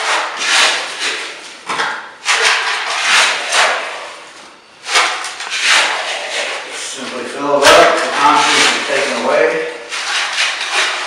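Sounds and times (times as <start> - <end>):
trowel scraping concrete: 0.0 - 11.0.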